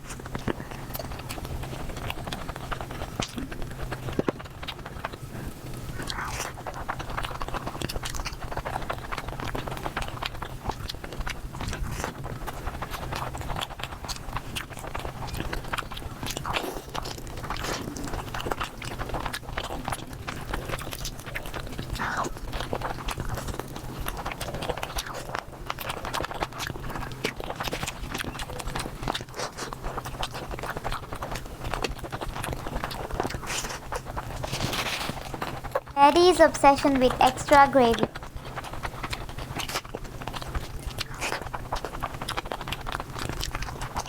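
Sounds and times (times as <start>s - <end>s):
person chewing and crunching food: 0.0s - 35.9s, 38.0s - 44.0s.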